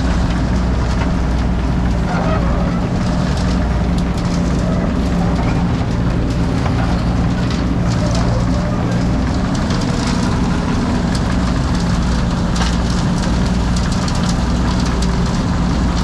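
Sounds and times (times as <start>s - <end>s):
heavy engine droning: 0.0s - 16.0s.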